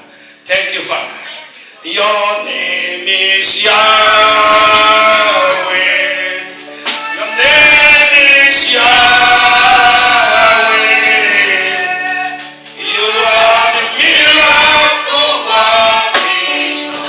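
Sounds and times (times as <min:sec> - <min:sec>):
gospel choir singing: 0:01.8 - 0:17.0.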